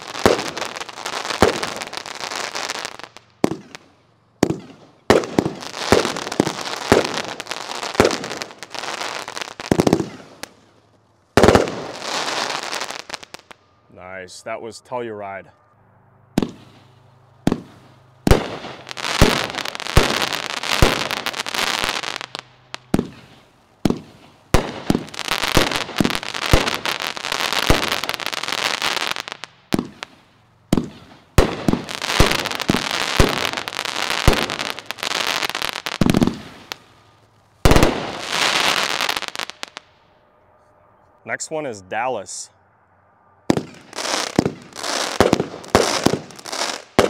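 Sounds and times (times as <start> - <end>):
firework shots and bursts: 0.0 - 10.7, 11.3 - 13.4, 16.4 - 36.9, 37.6 - 39.8, 43.5 - 47.0
firework crackling: 0.0 - 13.6, 16.4 - 40.0, 43.5 - 47.0.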